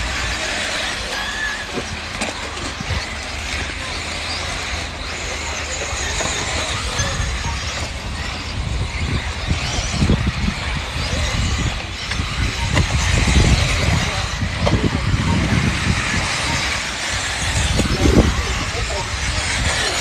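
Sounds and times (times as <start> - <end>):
rc car motors whining: 0.0 - 20.0.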